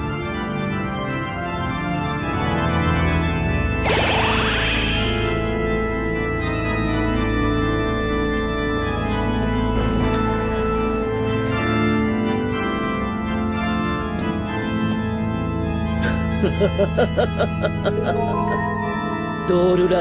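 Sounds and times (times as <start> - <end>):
sustained organ-like chords: 0.0 - 20.0.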